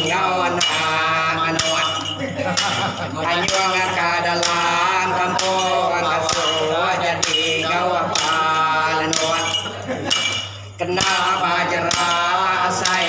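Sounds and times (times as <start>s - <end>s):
men chanting in unison: 0.0s - 13.0s
staffs striking the floor: 0.0s - 13.0s.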